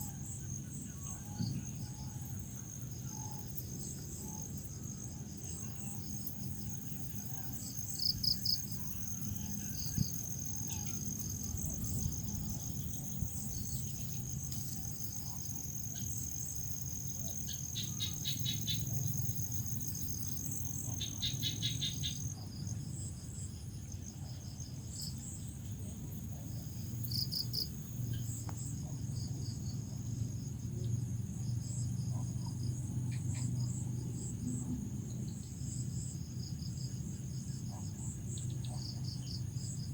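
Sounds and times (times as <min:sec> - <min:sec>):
crickets pulsed chirps: 0:00.0 - 0:39.9.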